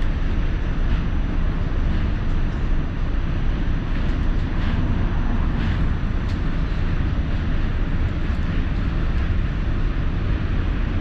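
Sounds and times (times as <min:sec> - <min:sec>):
subway train rumbling on bridge: 0:00.0 - 0:11.0.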